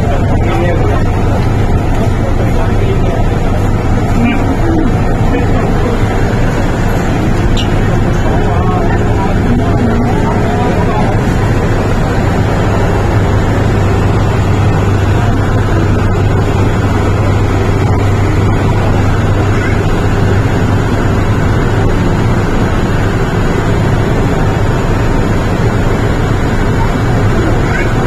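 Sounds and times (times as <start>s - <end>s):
train car hum and rumble: 0.0s - 28.0s.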